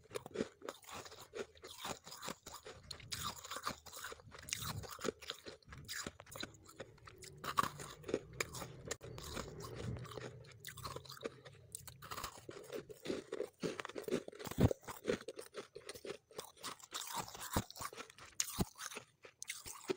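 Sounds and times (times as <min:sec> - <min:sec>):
chewing crunchy frost: 0:00.0 - 0:19.9.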